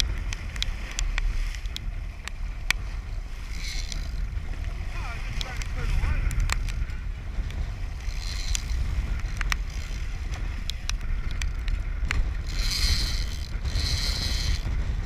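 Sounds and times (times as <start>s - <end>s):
sharp ticks: 0.0s - 14.8s
boat wake rushing: 0.0s - 15.0s
wind rumbling on microphone: 0.0s - 15.0s.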